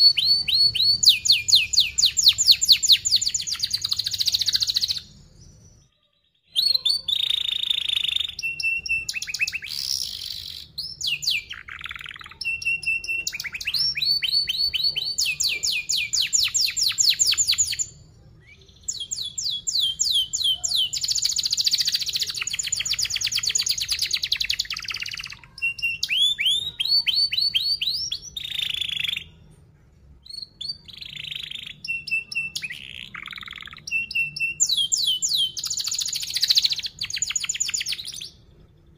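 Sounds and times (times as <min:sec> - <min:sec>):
canary singing: 0:00.0 - 0:29.6, 0:30.2 - 0:38.9.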